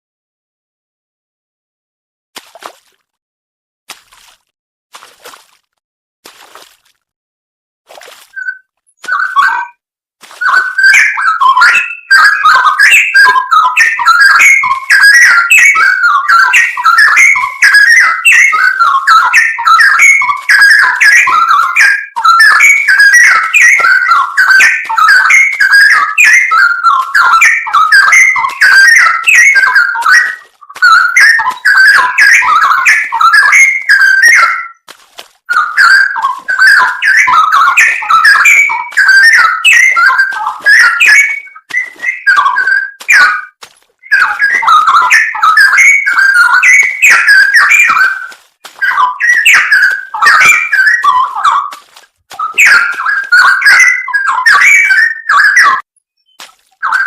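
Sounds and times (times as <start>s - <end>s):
bird singing whistled phrases: 8.3s - 9.8s, 10.4s - 34.8s, 35.5s - 51.8s, 52.4s - 57.0s.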